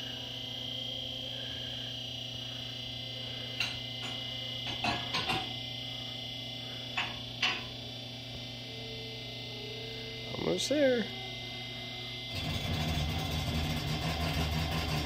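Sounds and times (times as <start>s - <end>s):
hydraulic pump humming and whining: 0.0s - 15.0s.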